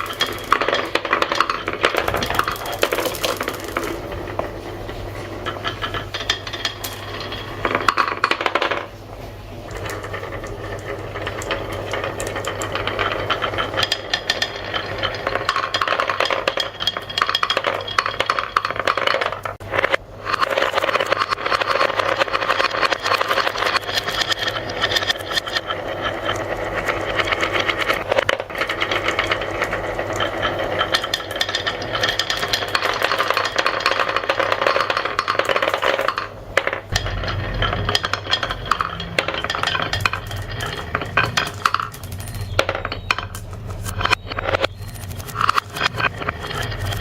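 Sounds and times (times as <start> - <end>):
marbles rattling down a track: 0.0 - 9.0, 9.6 - 47.0.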